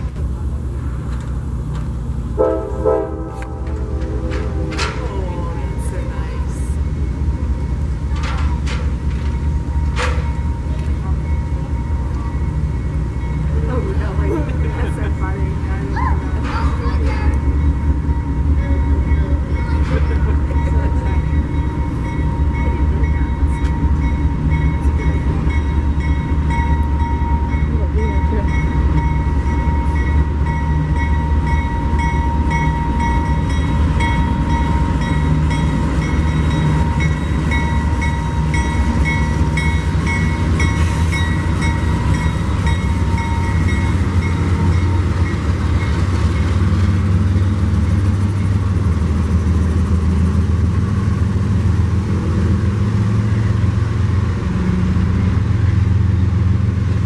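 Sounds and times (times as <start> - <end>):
train rumbling by: 0.0 - 57.0.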